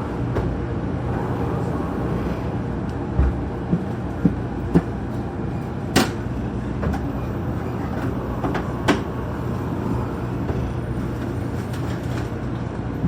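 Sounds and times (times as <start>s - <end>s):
train rumbling inside passenger car: 0.0s - 13.0s.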